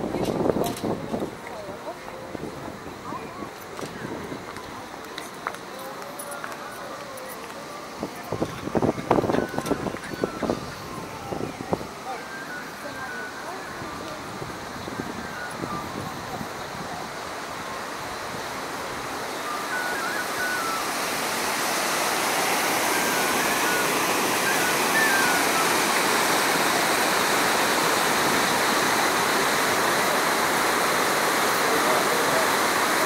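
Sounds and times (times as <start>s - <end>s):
water rushing over a weir: 0.0s - 33.0s.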